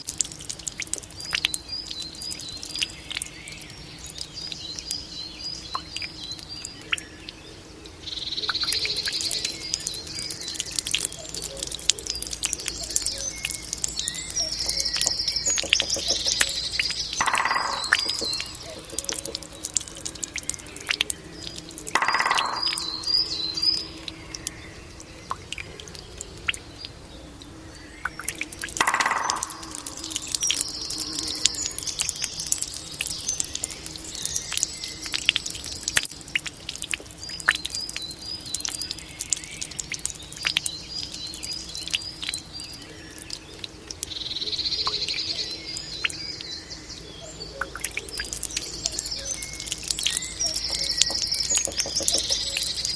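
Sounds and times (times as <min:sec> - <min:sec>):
fountain water trickling: 0:00.0 - 0:52.9
songbirds chirping trills: 0:00.1 - 0:52.9.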